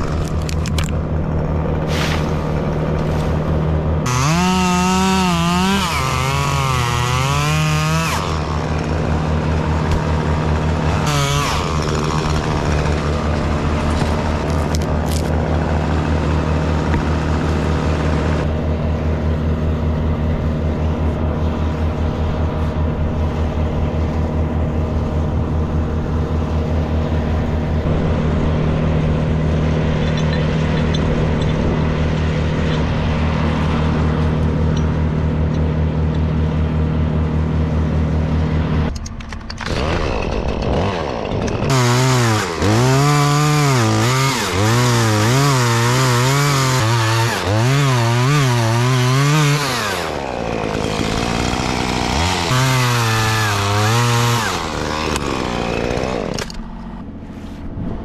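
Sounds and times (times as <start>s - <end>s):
chainsaw cutting wood: 0.0s - 57.3s.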